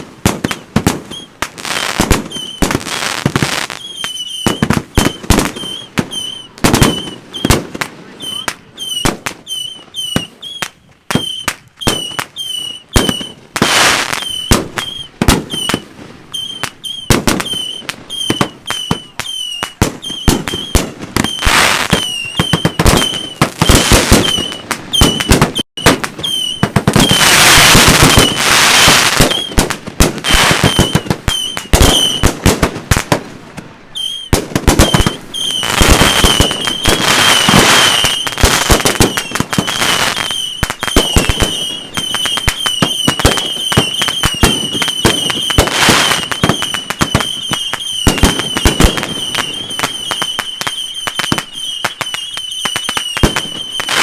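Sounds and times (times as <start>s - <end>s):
fireworks crackling: 0.0s - 54.0s
fireworks shots and bursts: 0.0s - 54.0s.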